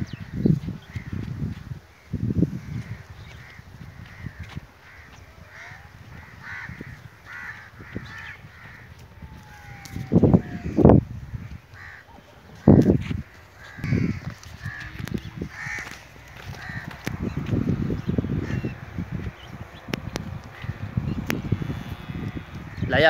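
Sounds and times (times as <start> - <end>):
crows cawing: 2.0 - 23.0.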